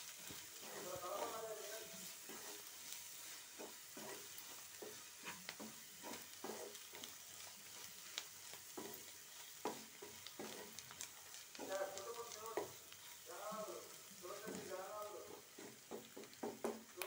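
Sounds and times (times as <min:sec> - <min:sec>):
spatula scraping a pan: 0:00.0 - 0:16.9
soft sizzle: 0:00.0 - 0:17.0.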